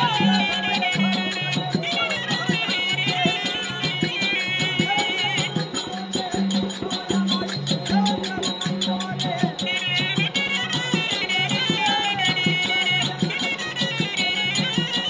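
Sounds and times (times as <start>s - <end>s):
hand cymbals clashing: 0.0s - 15.0s
shrill reed pipe melody: 0.0s - 15.0s.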